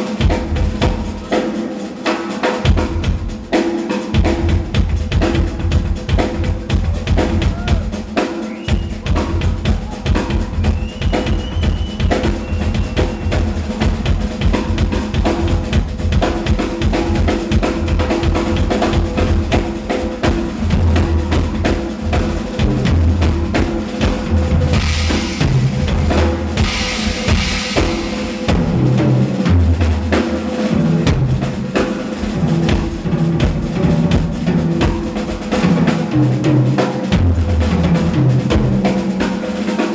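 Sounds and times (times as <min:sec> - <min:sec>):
fast rock drumming: 0:00.0 - 0:39.9.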